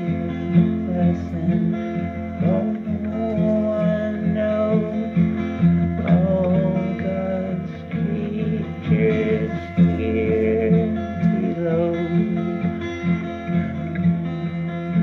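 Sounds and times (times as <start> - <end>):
acoustic guitar song: 0.0 - 15.0.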